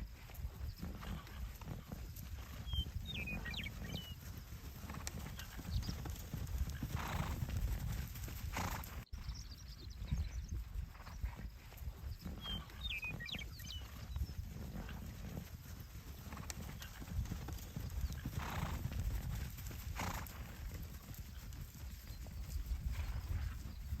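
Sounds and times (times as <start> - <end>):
hoofbeats of horses: 0.0 - 24.0.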